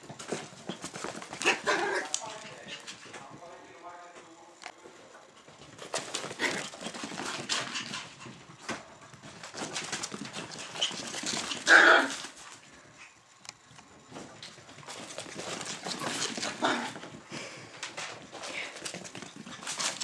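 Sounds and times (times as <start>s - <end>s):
puppies scuffling and clicking: 0.0s - 3.6s, 4.2s - 20.0s.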